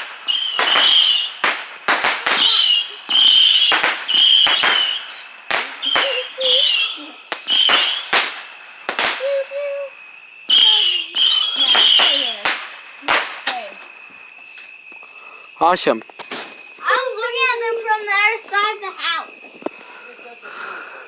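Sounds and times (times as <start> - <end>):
fireworks bangs: 0.0 - 15.0, 15.6 - 20.0
fireworks whistling: 0.0 - 21.0.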